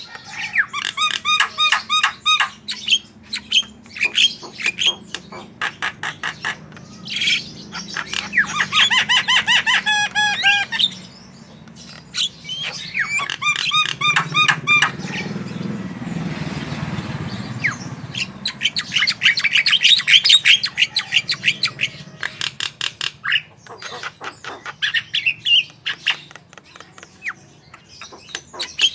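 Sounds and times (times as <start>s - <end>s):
bird chirping and singing: 0.0s - 28.9s
bird harsh rasping call: 0.0s - 28.9s.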